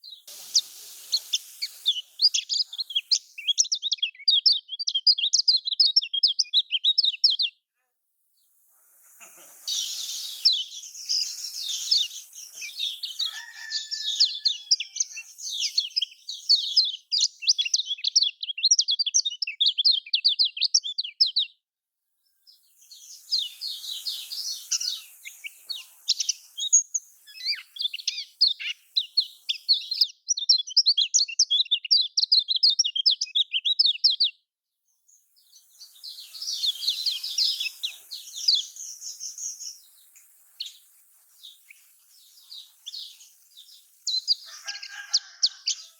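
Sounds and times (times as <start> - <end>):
bird chattering song: 0.0 - 7.5, 9.1 - 21.5, 22.6 - 34.3, 35.2 - 45.9.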